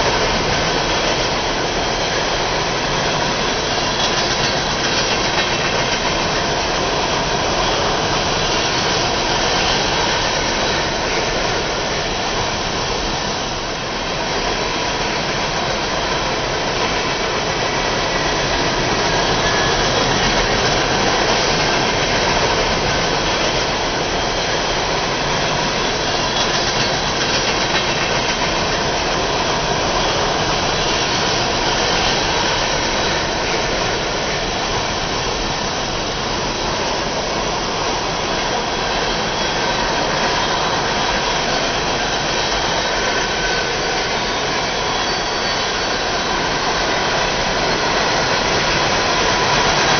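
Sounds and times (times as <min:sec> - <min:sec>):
model train running: 0:00.0 - 0:49.9.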